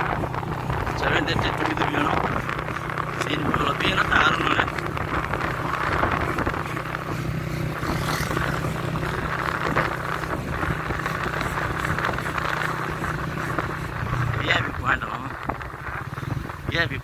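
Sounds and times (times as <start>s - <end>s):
road and wind noise: 0.0s - 17.0s
vehicle engine humming: 0.0s - 17.0s.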